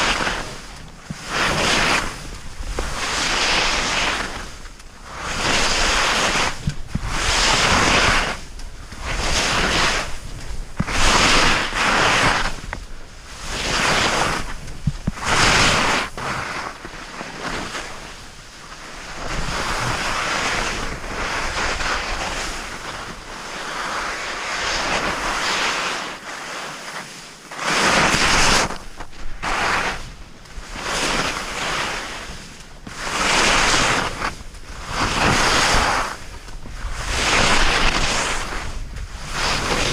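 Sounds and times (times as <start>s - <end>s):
wind on microphone: 0.0s - 26.2s, 27.8s - 39.9s
skis scraping through snow: 0.0s - 39.9s.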